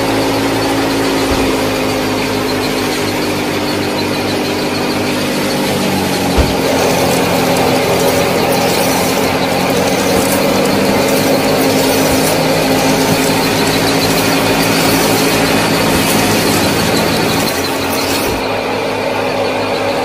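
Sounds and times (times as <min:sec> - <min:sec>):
model thresher motor humming: 0:00.0 - 0:20.0.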